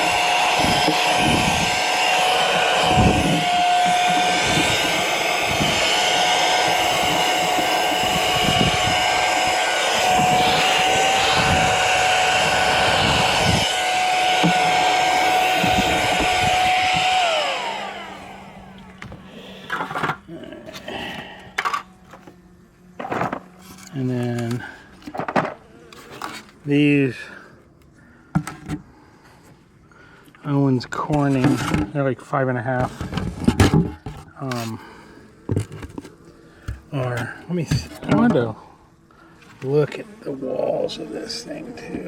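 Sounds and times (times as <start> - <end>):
handheld vacuum whine: 0.0 - 26.6, 32.8 - 42.0.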